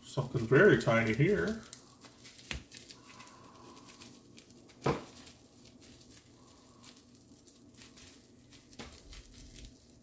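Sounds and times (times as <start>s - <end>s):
bubble wrap crinkling: 0.0s - 10.0s
sharp crackle: 0.2s - 10.0s.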